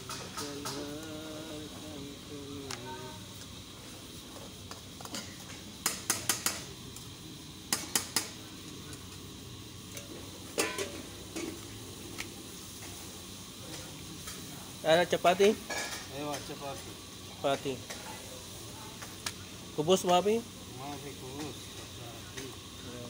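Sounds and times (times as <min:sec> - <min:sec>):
hiss of pan on gas burner: 0:00.0 - 0:23.0.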